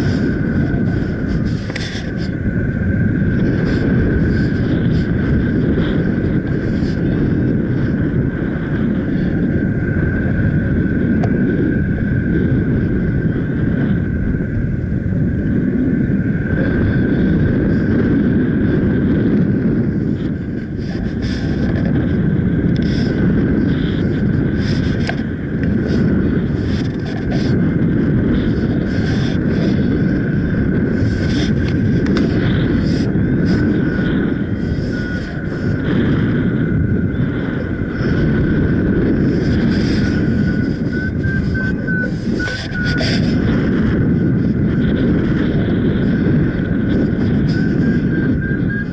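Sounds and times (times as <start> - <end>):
strong wind on microphone: 0.0 - 48.9.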